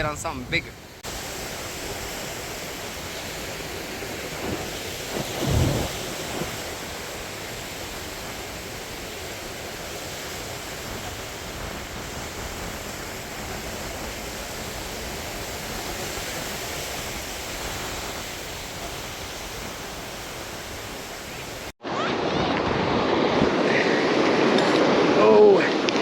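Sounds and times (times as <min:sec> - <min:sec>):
ocean surf washing onto beach: 0:00.0 - 0:26.0
wind on microphone: 0:00.0 - 0:26.0.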